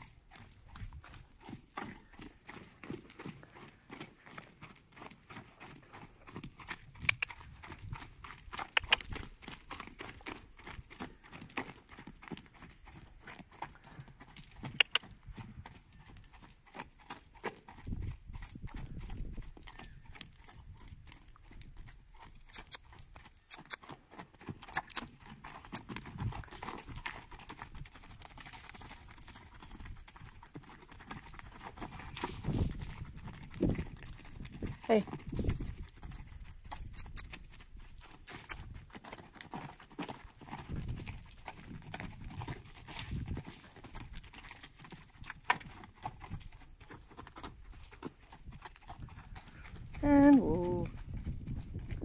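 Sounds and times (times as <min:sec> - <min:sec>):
horse hooves thudding on sand: 0:00.0 - 0:52.0.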